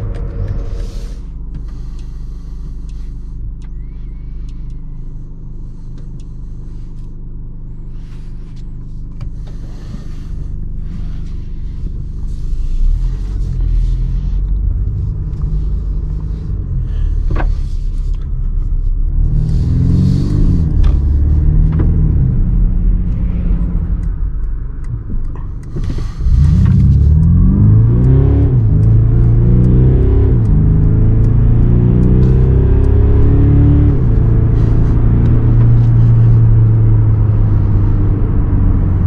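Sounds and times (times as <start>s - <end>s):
diesel engine from inside car: 0.0s - 39.0s.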